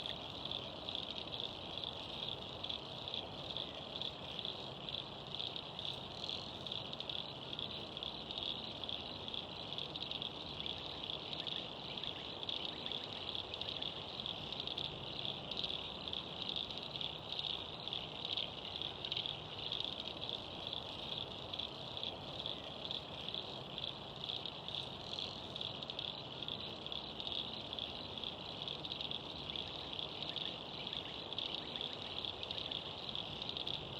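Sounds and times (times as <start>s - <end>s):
insect chorus trilling: 0.0s - 33.9s.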